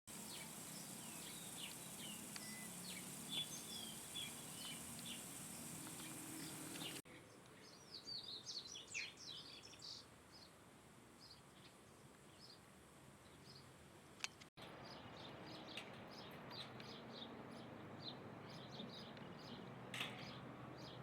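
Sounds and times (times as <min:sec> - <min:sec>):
small birds chirping: 0:00.1 - 0:10.6, 0:11.2 - 0:21.0.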